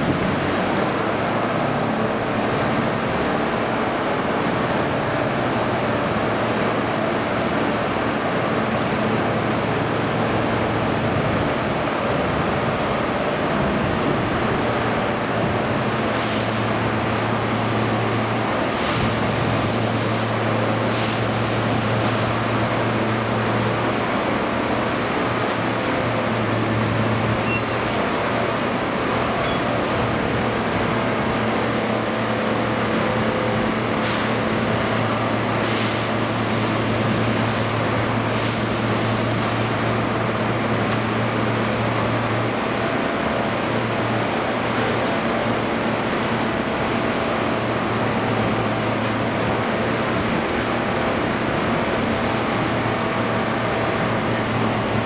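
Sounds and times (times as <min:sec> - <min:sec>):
engine drone: 0:00.0 - 0:55.0
rushing noise: 0:00.0 - 0:55.0.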